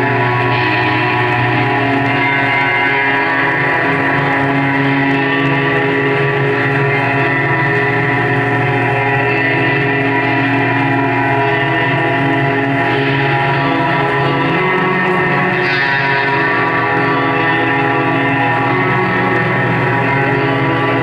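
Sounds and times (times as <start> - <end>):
band playing sustained drone: 0.0 - 21.0.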